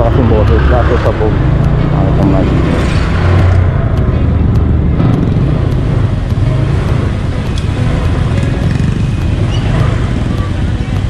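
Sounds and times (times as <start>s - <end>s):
scooter engine running: 0.0s - 11.0s
wind and road noise: 0.0s - 11.0s.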